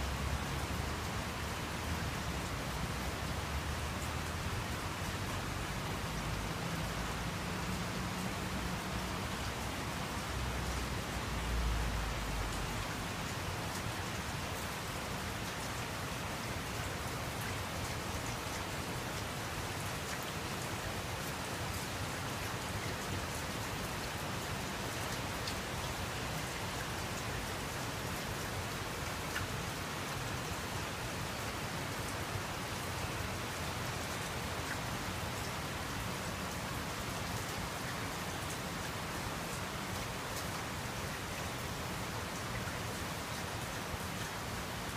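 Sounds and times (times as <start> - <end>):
heavy rain downpour: 0.0 - 44.9.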